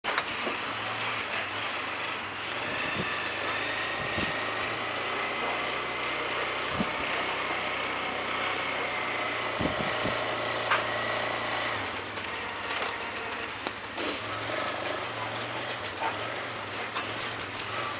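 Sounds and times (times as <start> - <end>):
atv engine running: 0.1 - 17.9.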